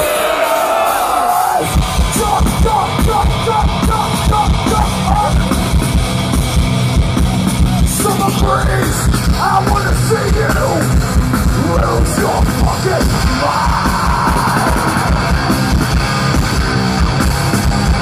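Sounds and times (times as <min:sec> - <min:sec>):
heavy metal band playing: 0:00.0 - 0:18.0.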